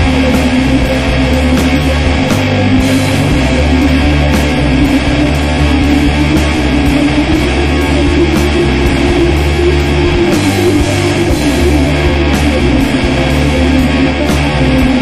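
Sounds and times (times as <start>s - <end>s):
loud rock music with guitar: 0.0s - 15.0s.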